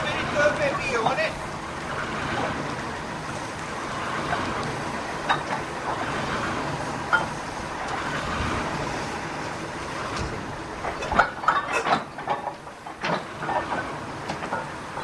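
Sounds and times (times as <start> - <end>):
steam engine hiss and clatter: 0.0 - 15.0.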